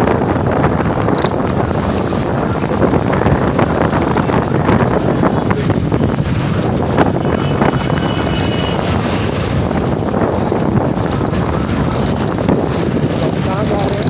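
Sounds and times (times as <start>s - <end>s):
road noise: 0.0s - 14.0s
wind buffeting microphone: 0.0s - 14.0s
motorcycle engine: 0.7s - 13.4s.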